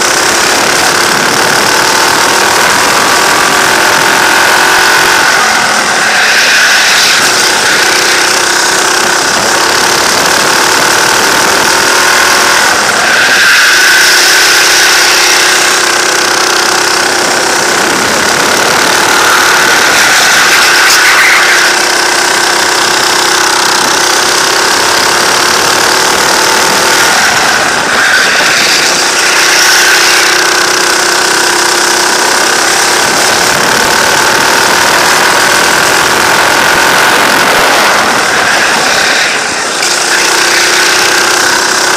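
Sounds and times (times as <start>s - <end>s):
go-kart engine running: 0.0s - 41.9s.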